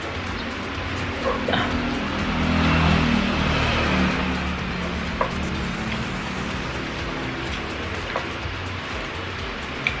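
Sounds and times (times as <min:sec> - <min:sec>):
music with low held tones: 0:00.0 - 0:10.0.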